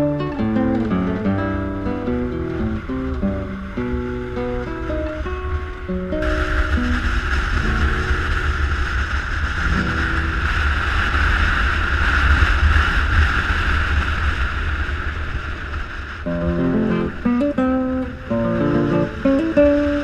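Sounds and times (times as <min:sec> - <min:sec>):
motorcycle engine rumble: 0:00.0 - 0:20.0
road noise: 0:00.0 - 0:20.0
wind rushing over microphone: 0:00.0 - 0:20.0.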